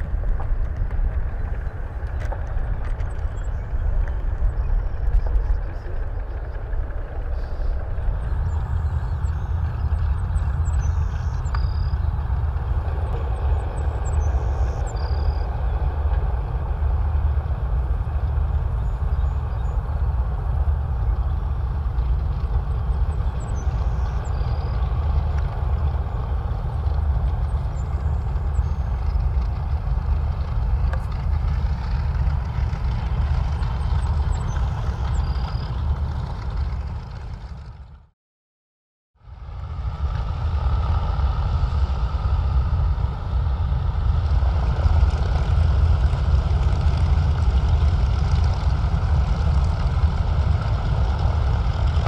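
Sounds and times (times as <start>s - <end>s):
aircraft engines rumbling: 0.0s - 38.2s, 39.2s - 52.0s.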